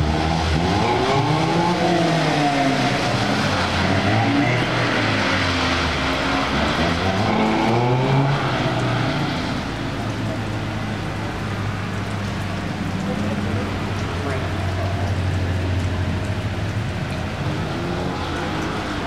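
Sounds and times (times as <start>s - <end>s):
car engine revving: 0.0s - 19.0s
rain hiss: 0.0s - 19.0s.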